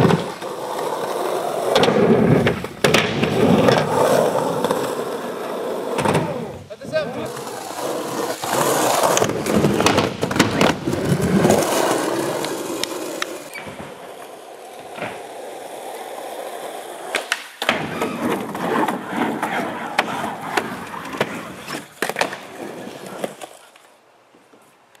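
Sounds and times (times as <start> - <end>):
skateboard clacks: 0.0 - 6.4, 7.2 - 23.9
skateboard wheels rolling: 0.0 - 25.0.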